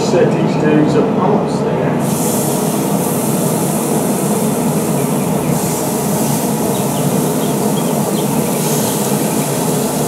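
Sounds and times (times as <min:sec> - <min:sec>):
grill rushing on high heat: 0:00.0 - 0:10.0.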